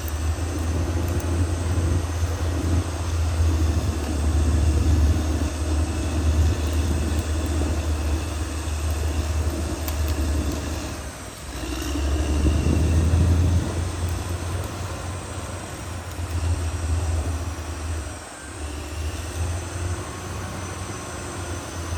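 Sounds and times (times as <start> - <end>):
bulldozer diesel engine droning: 0.0 - 21.9.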